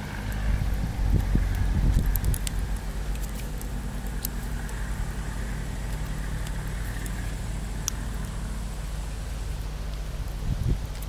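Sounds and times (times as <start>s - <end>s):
hot coals crackling: 0.0s - 11.0s
low engine-like hum: 0.0s - 11.0s.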